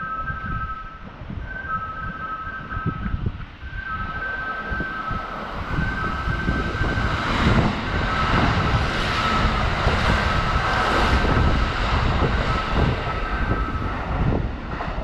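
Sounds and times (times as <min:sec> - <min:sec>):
train rushing past: 0:00.0 - 0:15.0
wind buffeting microphone: 0:00.0 - 0:15.0.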